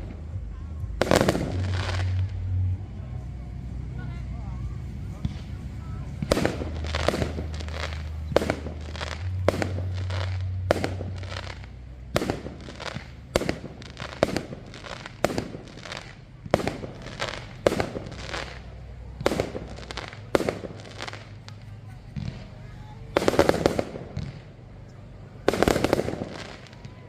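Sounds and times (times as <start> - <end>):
fireworks banging: 0.0 - 27.0
low steady rumble: 0.0 - 27.0.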